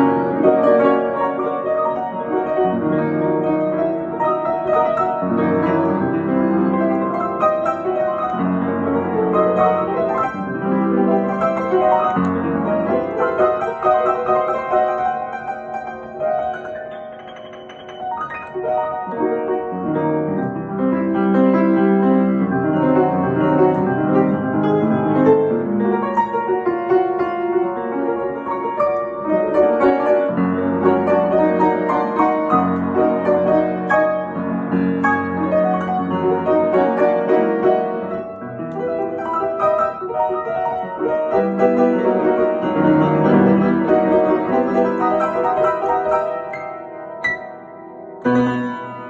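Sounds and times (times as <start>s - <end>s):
fast piano improvisation: 0.0s - 49.0s.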